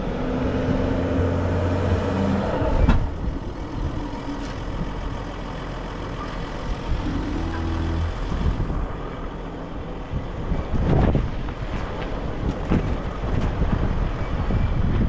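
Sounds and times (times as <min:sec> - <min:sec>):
tyre and road noise: 0:00.0 - 0:15.0
van engine hum: 0:00.0 - 0:15.0.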